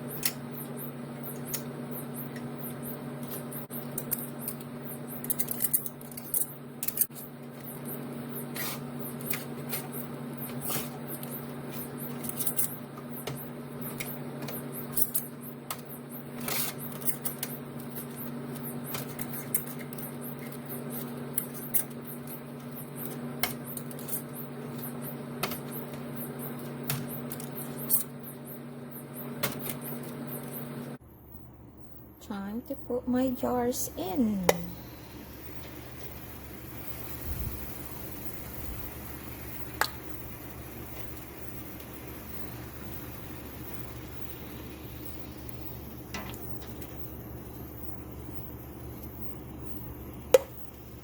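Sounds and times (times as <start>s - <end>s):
low electrical hum: 0.0s - 51.0s.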